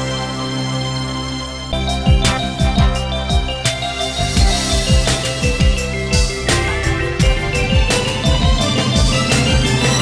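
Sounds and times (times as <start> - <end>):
theme music with held chords: 0.0 - 10.0
bass drum beating: 1.7 - 10.0.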